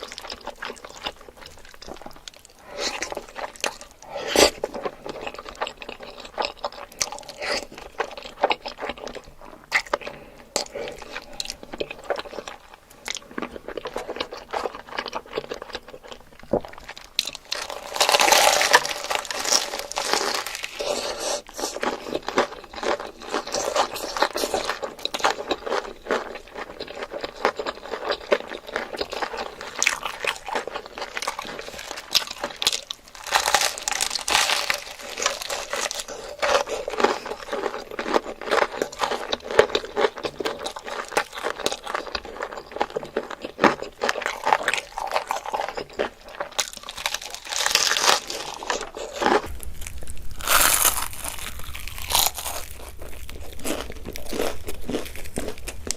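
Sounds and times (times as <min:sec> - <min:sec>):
crunching and chewing: 0:00.0 - 0:55.9.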